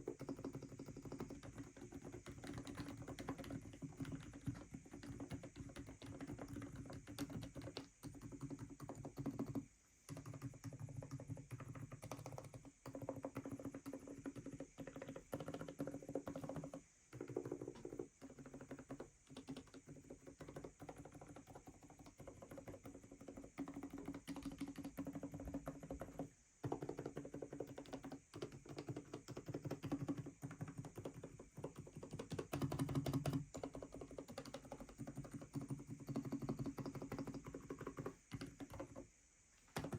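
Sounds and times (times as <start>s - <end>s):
typing on mechanical keyboard: 0.0s - 39.0s, 39.7s - 39.9s.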